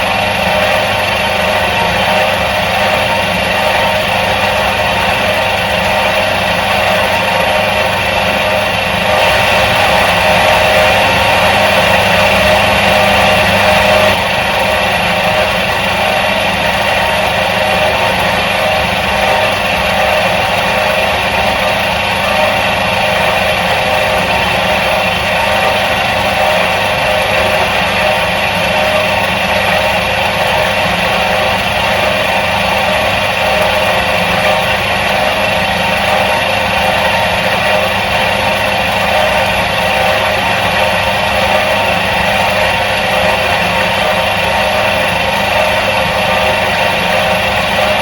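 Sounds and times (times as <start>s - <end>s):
washing machine motor humming: 0.0s - 48.0s.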